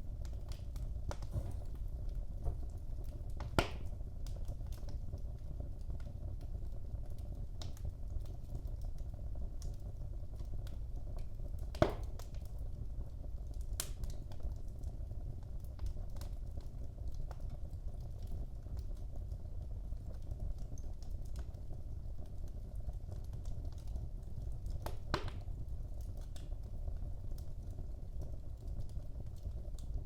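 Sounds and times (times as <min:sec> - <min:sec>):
fire popping: 0:00.0 - 0:30.0
fire ticking: 0:00.0 - 0:30.0
low rumble of burning: 0:00.0 - 0:30.0.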